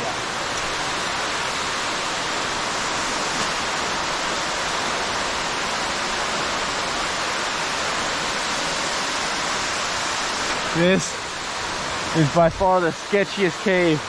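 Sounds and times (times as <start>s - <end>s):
water rushing in a cave: 0.0s - 14.0s.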